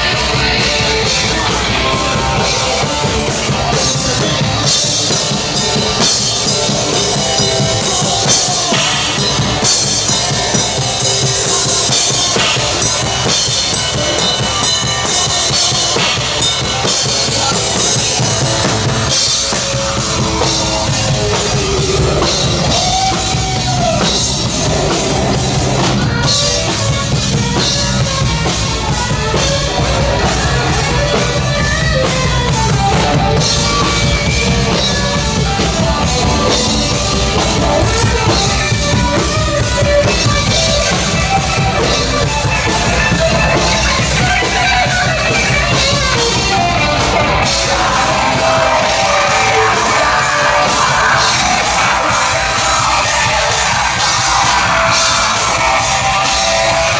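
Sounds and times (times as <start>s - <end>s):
distorted guitar: 0.0s - 56.9s
live punk metal band: 0.0s - 56.9s
pounding drum kit: 0.0s - 56.9s
shouted vocals: 0.0s - 56.9s.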